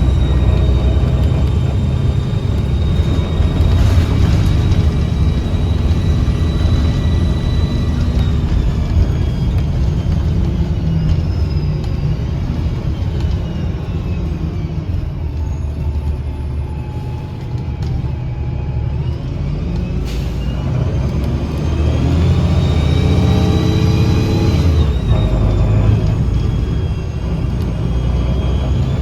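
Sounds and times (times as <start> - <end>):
diesel bus engine rumble: 0.0 - 29.0
whistling whine rising in pitch: 0.0 - 29.0.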